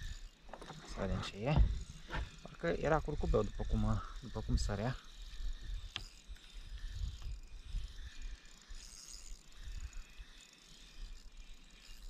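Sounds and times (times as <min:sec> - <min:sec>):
fishing reel being cranked: 0:00.0 - 0:12.0.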